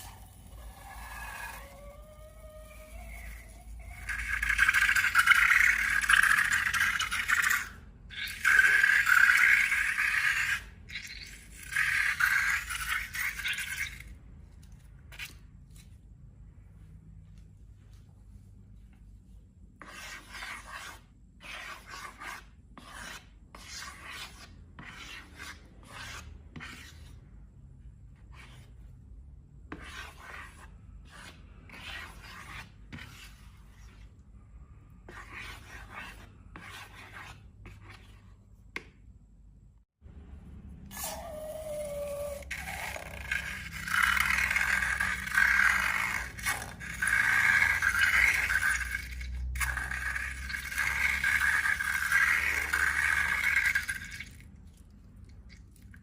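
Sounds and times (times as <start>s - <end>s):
tool scraping slime: 0.0s - 15.9s, 19.8s - 27.2s, 29.7s - 34.2s, 35.1s - 38.9s, 40.9s - 54.8s.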